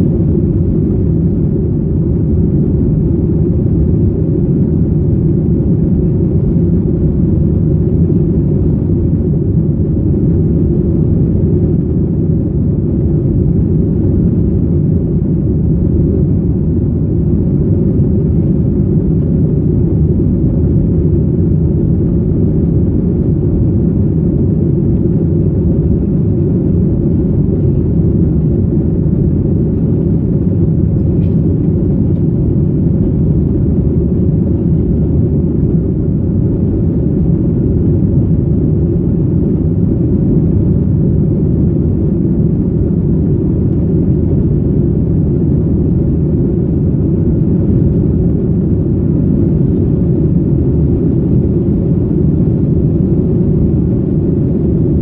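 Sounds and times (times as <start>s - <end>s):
airplane cabin low rumble: 0.0s - 55.0s
faint steady hum: 0.0s - 55.0s.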